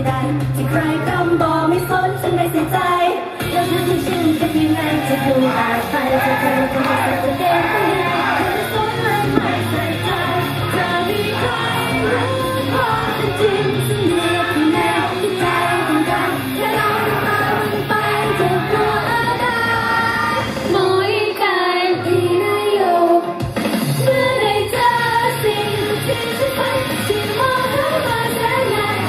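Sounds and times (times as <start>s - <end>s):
sped-up pop song with female vocals: 0.0s - 29.0s.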